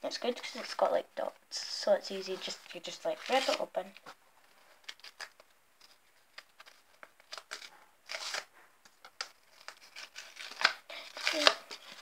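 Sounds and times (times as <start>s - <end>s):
paper stickers crinkling: 2.4s - 12.0s.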